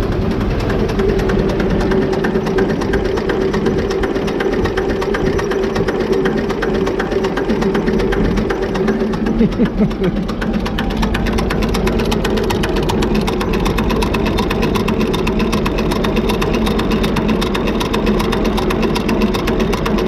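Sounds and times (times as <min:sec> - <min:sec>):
tractor diesel engine clattering: 0:00.0 - 0:20.0.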